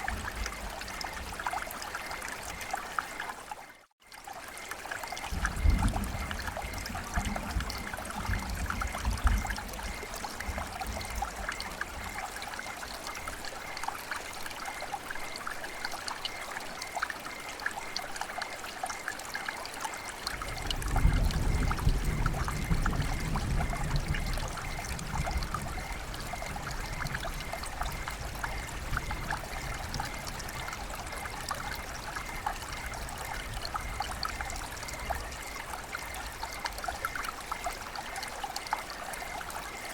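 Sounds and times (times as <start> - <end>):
rain pattering: 0.0 - 39.9
trickling running water: 0.0 - 39.9.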